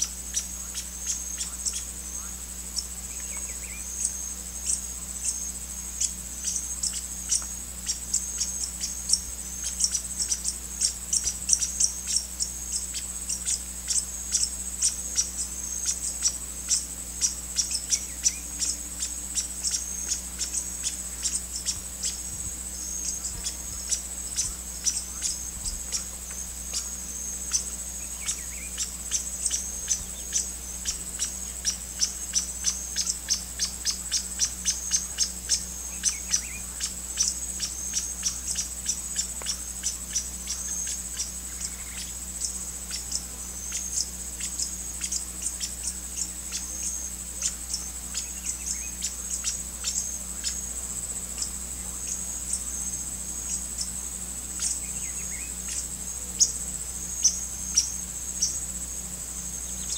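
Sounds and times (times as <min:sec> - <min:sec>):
high-pitched insect trill: 0:00.0 - 0:59.9.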